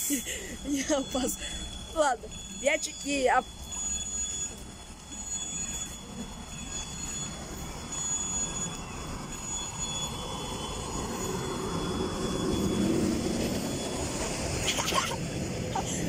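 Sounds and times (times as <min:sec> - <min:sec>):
electric train rumbling: 0:00.0 - 0:16.0
faint high squeal: 0:00.0 - 0:16.0.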